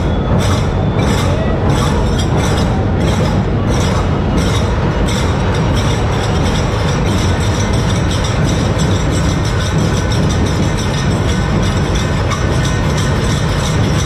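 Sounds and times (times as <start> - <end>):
big drums playing: 0.0 - 14.0
hand cymbals clashing: 0.0 - 14.0.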